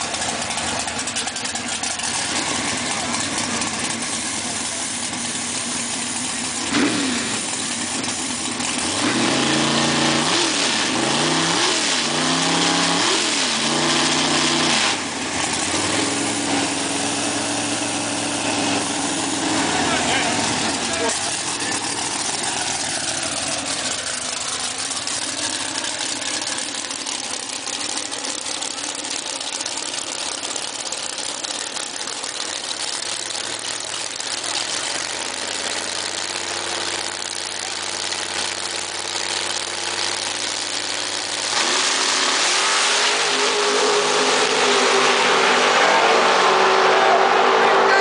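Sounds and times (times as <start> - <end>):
drag racing engines: 0.0 - 48.0.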